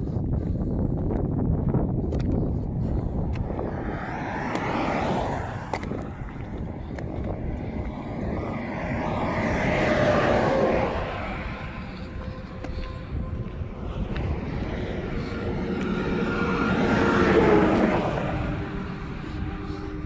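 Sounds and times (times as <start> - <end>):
highway vehicles passing: 0.0 - 20.0.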